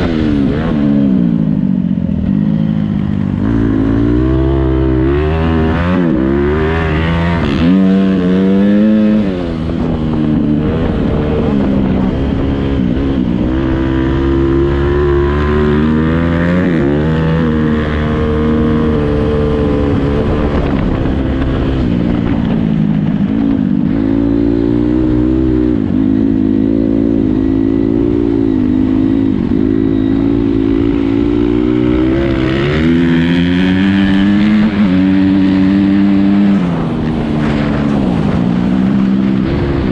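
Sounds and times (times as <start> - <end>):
motocross bike engine revving: 0.0 - 22.4, 23.9 - 39.9.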